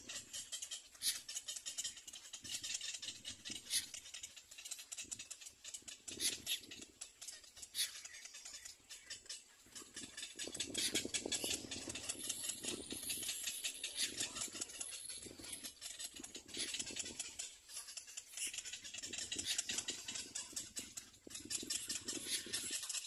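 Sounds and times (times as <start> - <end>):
cormorants rattling calls: 0.0 - 23.0.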